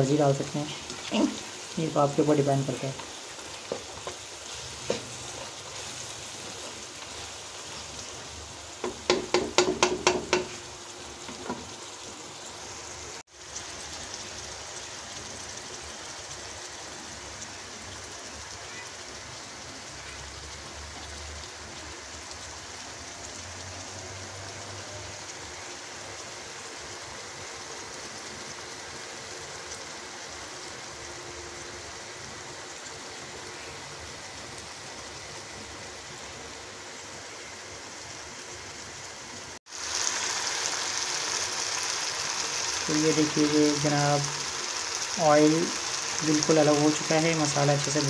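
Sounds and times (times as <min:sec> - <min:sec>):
food sizzling in oil: 0:00.0 - 0:48.0.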